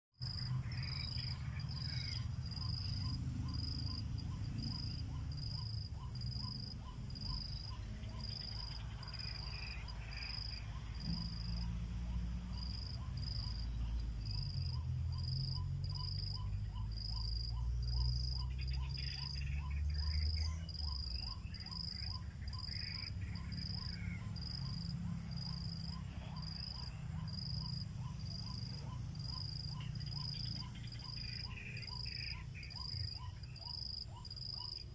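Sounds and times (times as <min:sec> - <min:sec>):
insects chirping: 0:00.2 - 0:34.9.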